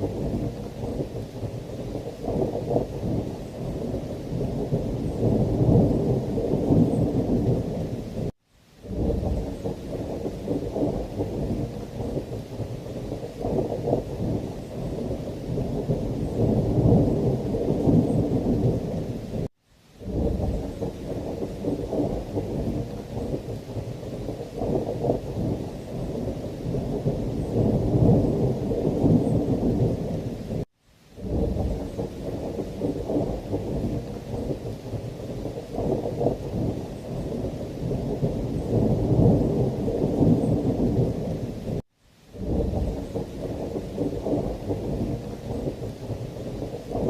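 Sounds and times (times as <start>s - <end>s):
rolling thunder: 0.0s - 41.8s, 42.4s - 47.0s
heavy rain: 0.0s - 47.0s.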